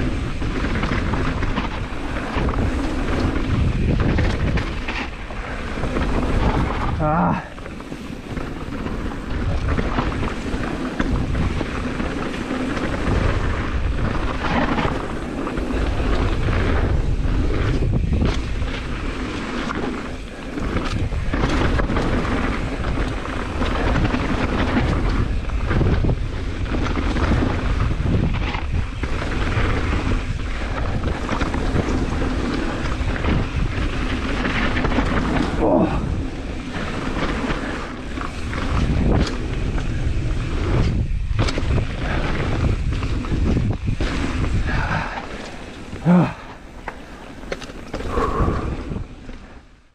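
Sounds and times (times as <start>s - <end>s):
tyres rolling over dirt and stones: 0.0s - 49.8s
bike rattling over bumps: 0.0s - 49.9s
wind buffeting microphone: 0.0s - 49.9s.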